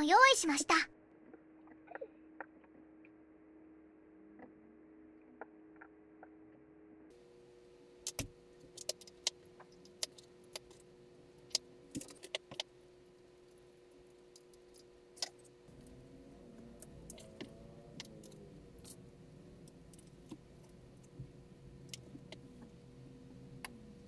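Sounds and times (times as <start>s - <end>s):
faint low whir: 0.0s - 24.0s.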